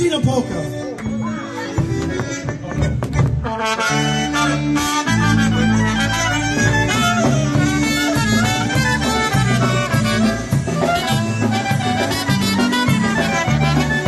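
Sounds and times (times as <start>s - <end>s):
concertina melody: 0.0s - 14.0s
polka band playing: 0.0s - 14.0s.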